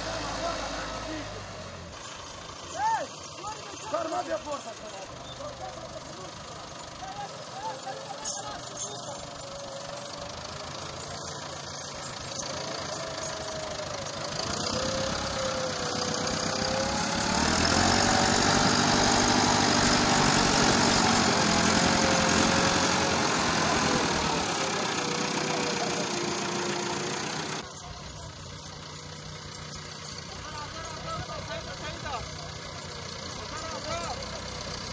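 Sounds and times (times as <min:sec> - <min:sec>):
tractor diesel engine labouring: 0:00.0 - 0:34.9.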